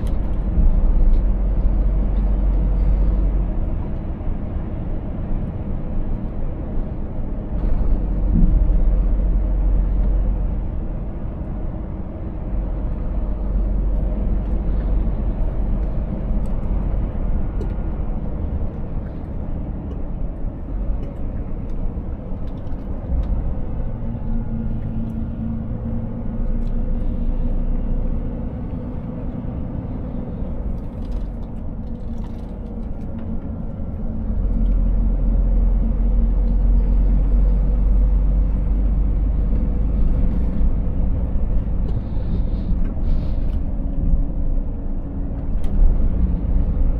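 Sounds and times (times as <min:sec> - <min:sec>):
diesel truck engine running: 0:00.0 - 0:46.9
road rumble: 0:00.0 - 0:46.9.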